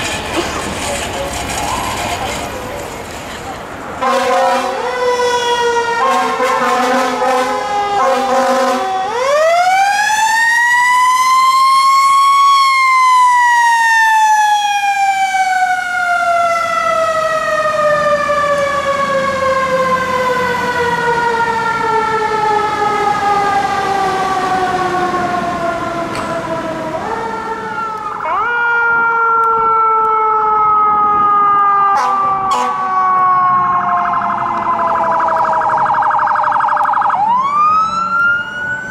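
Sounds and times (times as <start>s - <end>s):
mechanical siren wailing: 4.4s - 38.9s.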